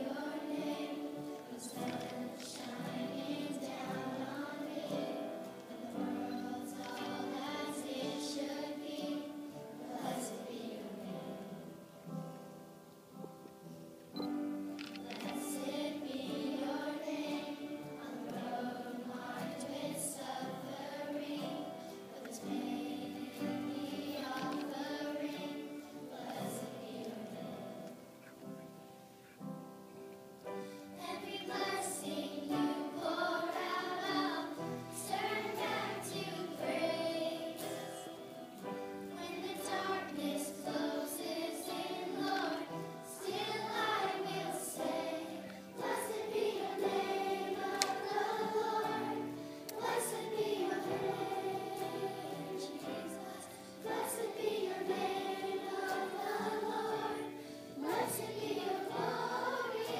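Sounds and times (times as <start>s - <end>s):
girl singing into microphone: 0.0s - 11.7s, 15.0s - 28.0s, 30.8s - 59.9s
piano accompaniment: 0.0s - 59.9s.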